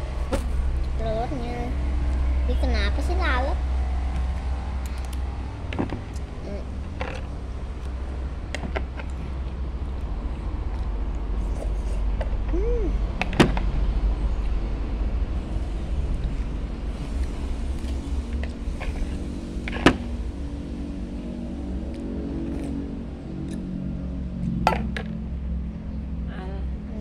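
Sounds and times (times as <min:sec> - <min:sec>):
steady low rumble: 0:00.0 - 0:27.0
vehicle engine humming: 0:00.0 - 0:27.0.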